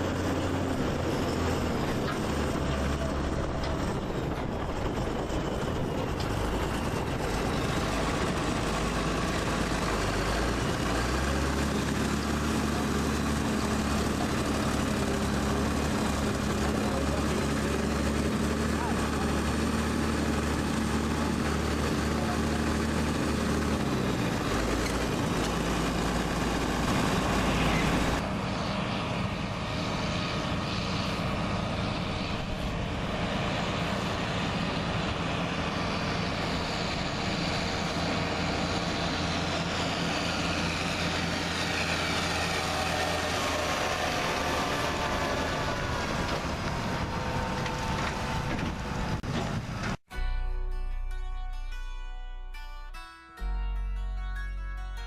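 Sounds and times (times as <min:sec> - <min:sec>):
farm machine engine running: 0:00.0 - 0:55.0.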